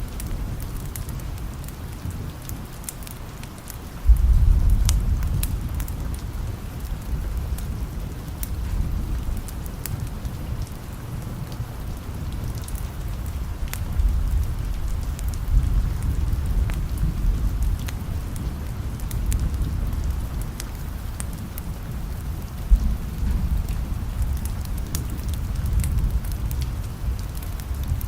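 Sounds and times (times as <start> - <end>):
steady rain: 0.0 - 28.0
sharp crackles: 0.1 - 28.0
distant thunder rumbling: 4.0 - 28.0.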